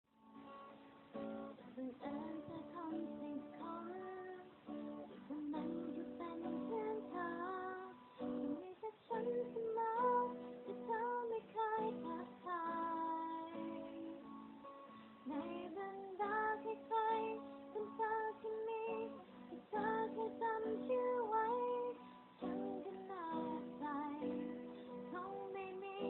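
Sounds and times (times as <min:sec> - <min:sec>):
guitar accompaniment: 0:00.1 - 0:26.0
woman singing: 0:01.4 - 0:26.0.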